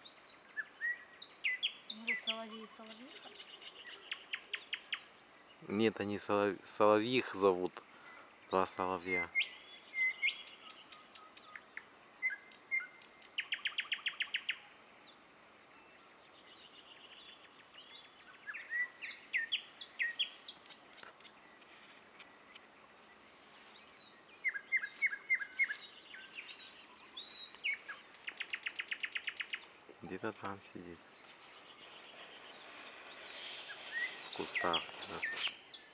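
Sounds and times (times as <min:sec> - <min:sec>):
nightingales singing: 0:00.0 - 0:14.9, 0:15.8 - 0:35.9.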